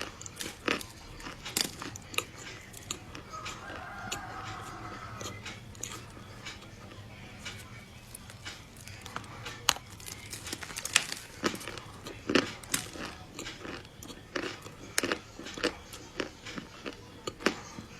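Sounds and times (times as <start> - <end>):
crunchy dessert being chewed: 0.0 - 17.9.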